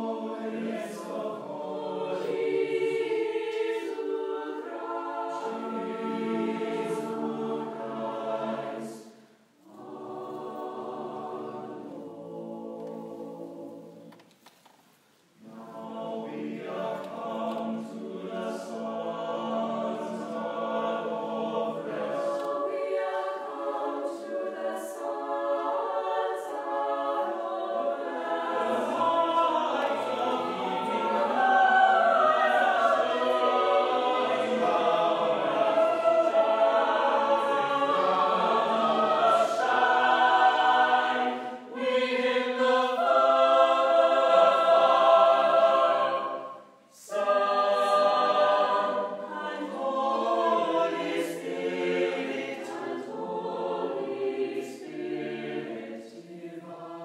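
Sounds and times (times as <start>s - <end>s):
mixed choir singing unaccompanied: 0.0s - 14.2s, 15.4s - 57.0s.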